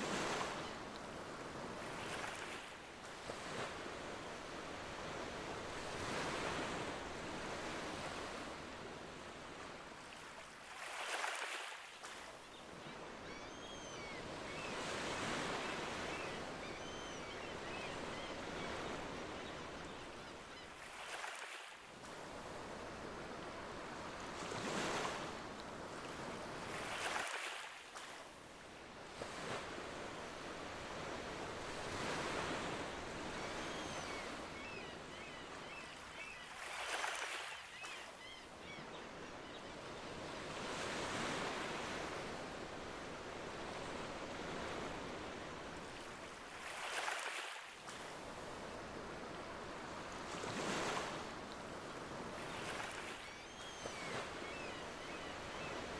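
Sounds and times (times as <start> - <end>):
ocean waves on shore: 0.0 - 55.9.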